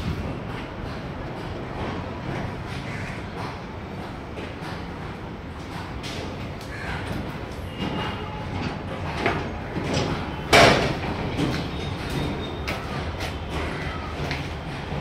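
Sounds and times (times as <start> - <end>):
scattered knocks: 0.0 - 15.0.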